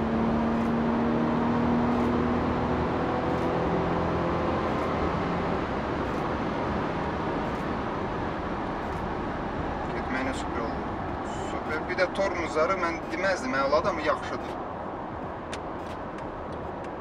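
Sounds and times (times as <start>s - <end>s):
car engine hum: 0.0s - 17.0s
tyre and road noise: 0.0s - 17.0s.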